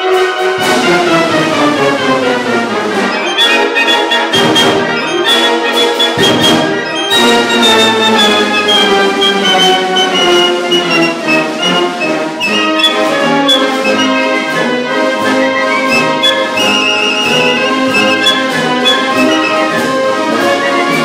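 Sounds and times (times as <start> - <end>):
orchestral music led by brass: 0.0 - 21.0.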